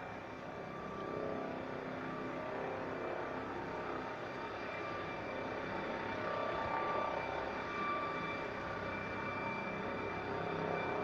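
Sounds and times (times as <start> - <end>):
distant helicopter: 0.0 - 11.0.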